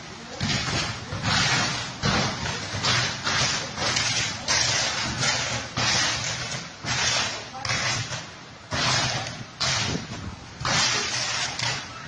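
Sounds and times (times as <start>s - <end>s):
power lines arcing crackle: 0.0s - 12.0s
rain: 0.0s - 12.0s.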